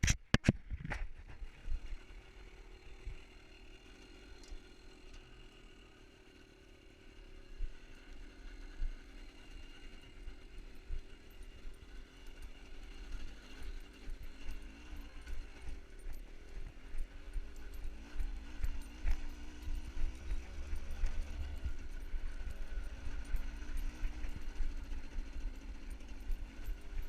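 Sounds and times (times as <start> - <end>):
small engine running: 0.9 - 27.0.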